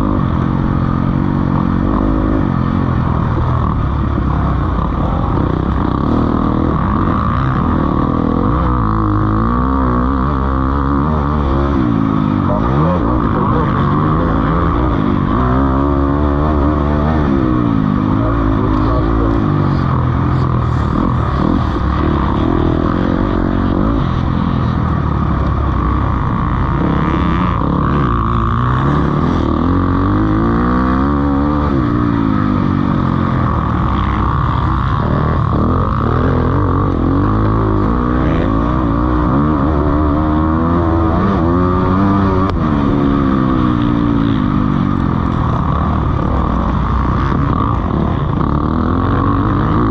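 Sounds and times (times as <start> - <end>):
motocross bike engines revving: 0.0 - 49.9.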